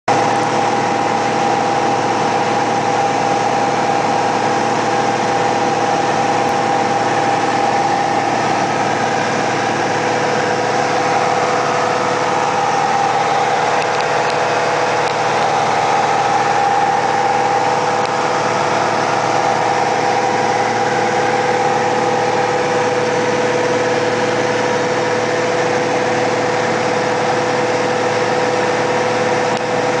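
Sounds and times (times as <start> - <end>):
aircraft engine and propeller hum: 0.2 - 30.0.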